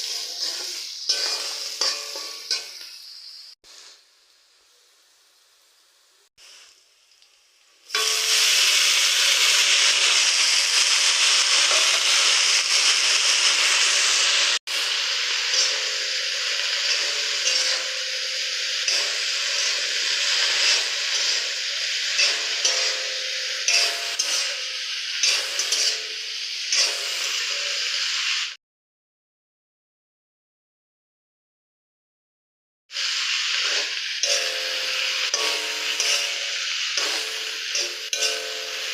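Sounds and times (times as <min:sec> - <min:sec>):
vegetables sizzling in hot oil: 0:00.0 - 0:28.6, 0:32.9 - 0:38.9.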